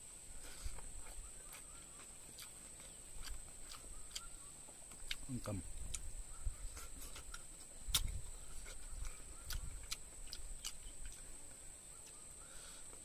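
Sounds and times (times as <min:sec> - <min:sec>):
mouth sounds while chewing: 0:00.3 - 0:13.0.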